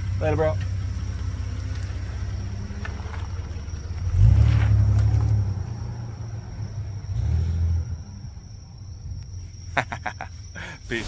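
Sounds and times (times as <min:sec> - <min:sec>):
car engine accelerating: 0:00.0 - 0:08.9.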